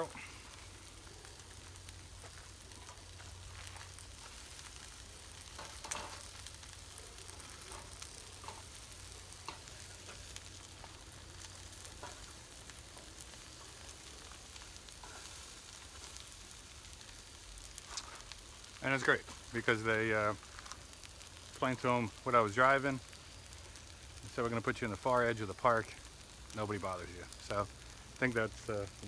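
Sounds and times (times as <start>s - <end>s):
onions sizzling in pan: 0.0s - 29.0s.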